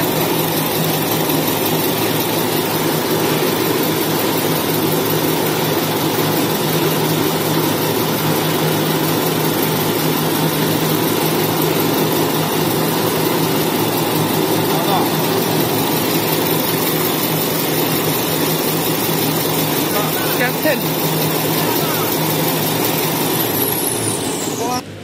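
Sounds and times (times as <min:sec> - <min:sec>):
machine drone with low hum: 0:00.0 - 0:25.0.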